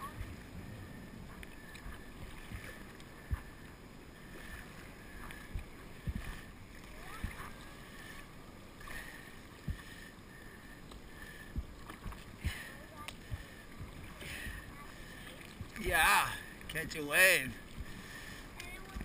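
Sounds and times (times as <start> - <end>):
water lapping against paddleboard: 0.0 - 19.0.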